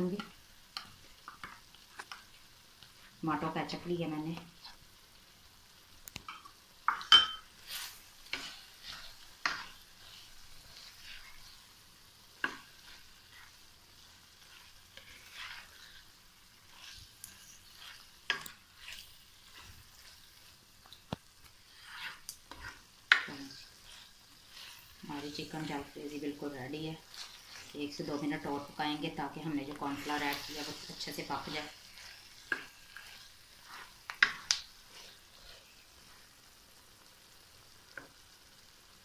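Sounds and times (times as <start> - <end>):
food sizzling: 0.0 - 39.0
spatula scraping a pan: 0.1 - 4.8, 6.4 - 36.4.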